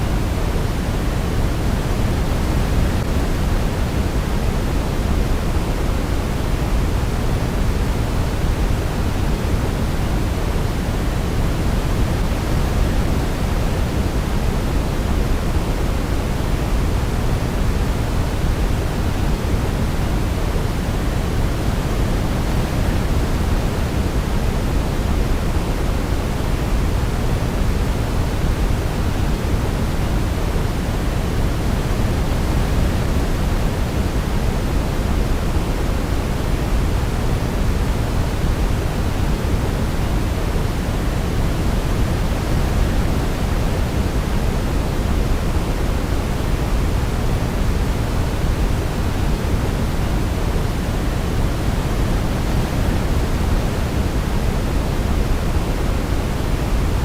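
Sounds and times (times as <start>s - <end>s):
low steady hiss: 0.0s - 57.0s.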